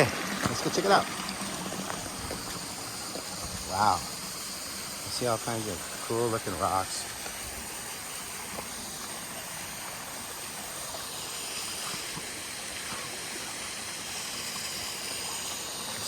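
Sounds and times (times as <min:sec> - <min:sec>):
stream splashing over rocks: 0:00.0 - 0:16.0.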